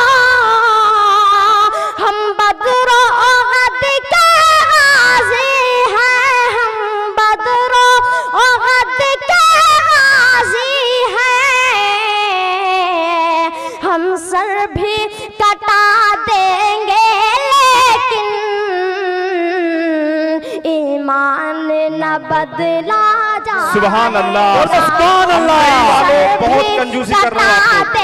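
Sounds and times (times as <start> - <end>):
boy singing into a microphone: 0.0 - 28.0.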